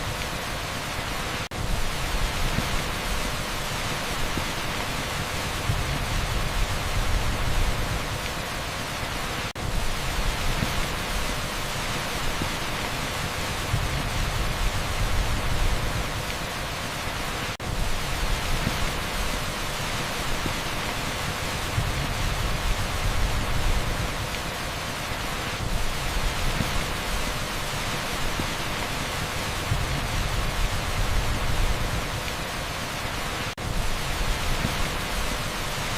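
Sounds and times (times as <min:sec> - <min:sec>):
heavy downpour on asphalt: 0:00.0 - 0:35.9
pink noise hiss: 0:00.0 - 0:35.9.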